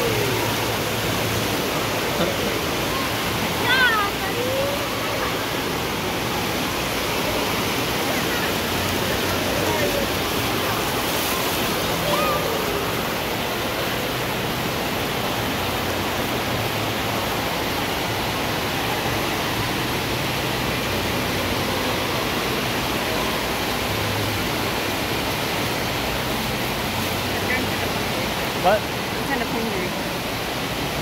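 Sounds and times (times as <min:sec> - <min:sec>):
water rushing over pool floor: 0:00.0 - 0:31.0.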